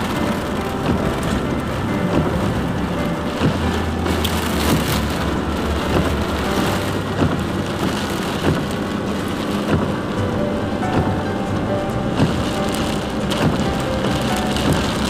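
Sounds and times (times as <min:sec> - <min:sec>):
heavy rain on car windshield: 0:00.0 - 0:15.0
road and engine rumble: 0:00.0 - 0:15.0.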